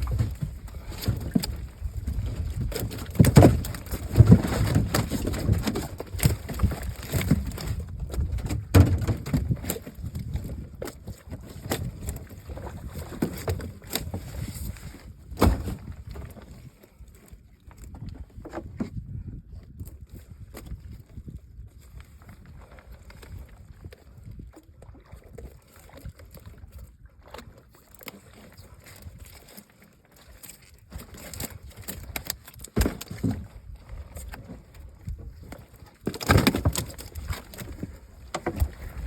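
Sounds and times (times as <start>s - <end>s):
knocks and thumps against boat: 0.0s - 39.0s.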